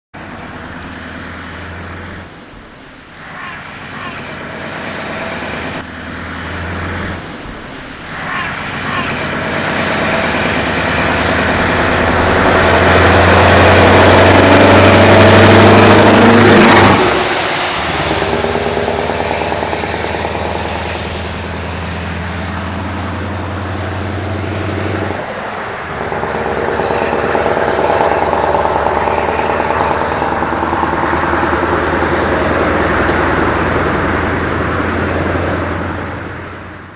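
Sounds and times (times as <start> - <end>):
diesel truck engine accelerating: 0.1 - 36.9.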